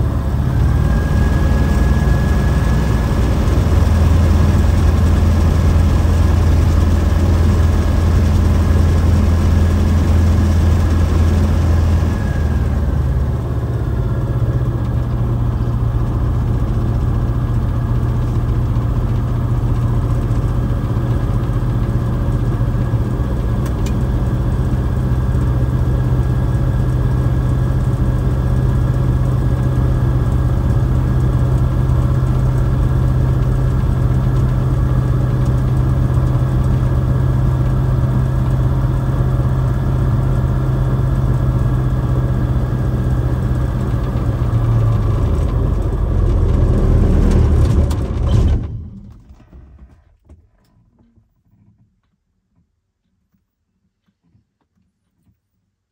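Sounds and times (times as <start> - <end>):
aircraft engine and propeller droning: 0.0 - 48.7.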